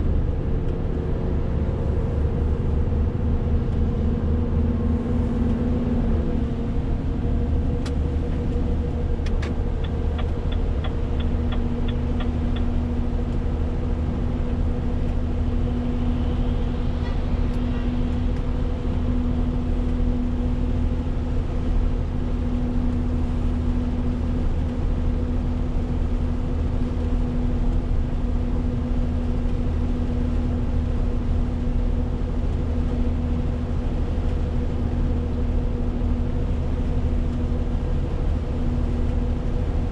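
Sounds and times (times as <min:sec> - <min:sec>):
road rumble: 0:00.0 - 0:39.9
truck diesel engine humming: 0:00.0 - 0:39.9.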